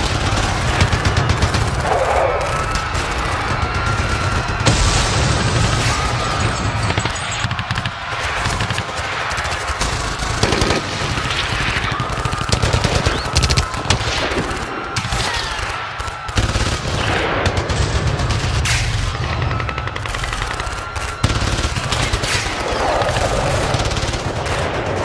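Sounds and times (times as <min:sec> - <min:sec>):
rapid automatic gunfire: 0:00.0 - 0:25.0.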